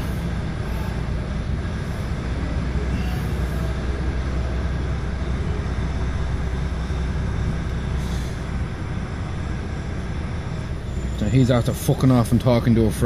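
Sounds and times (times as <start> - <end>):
diesel lorry engine rumbling: 0.0 - 13.0.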